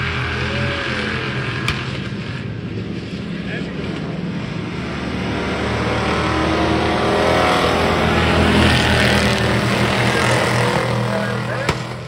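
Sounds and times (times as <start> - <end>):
racing truck engines passing: 0.0 - 12.0.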